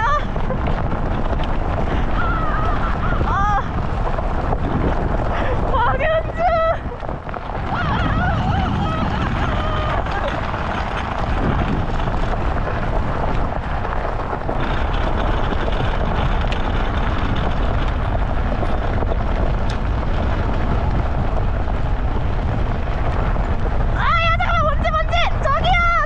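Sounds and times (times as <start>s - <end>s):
cart wheels rumbling over dirt: 0.0s - 26.0s.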